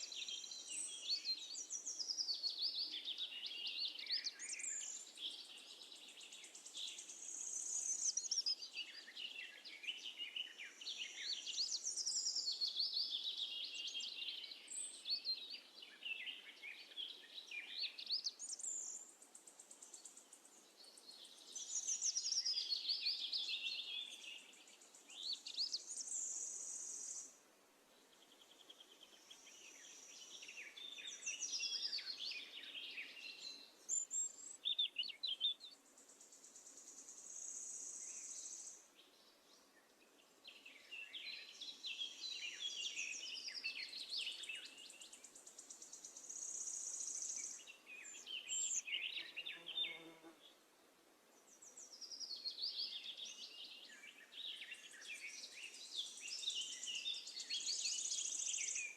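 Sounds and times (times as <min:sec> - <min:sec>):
sparrows chirping: 0:00.0 - 0:27.3, 0:28.0 - 0:50.3, 0:51.4 - 0:58.9.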